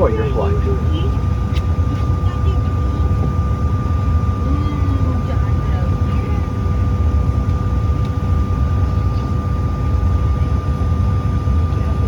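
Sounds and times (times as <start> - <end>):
jet cabin engine rumble and whine: 0.0 - 12.0.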